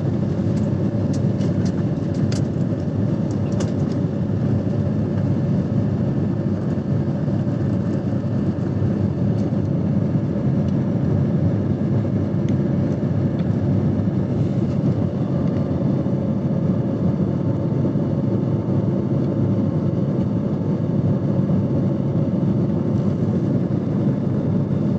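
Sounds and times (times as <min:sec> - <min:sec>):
aeroplane engines rumbling: 0:00.0 - 0:24.9.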